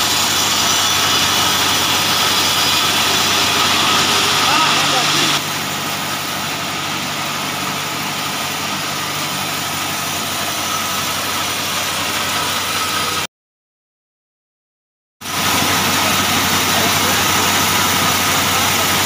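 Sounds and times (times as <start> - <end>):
band sawmill cutting timber: 0.0 - 13.3, 15.2 - 19.0.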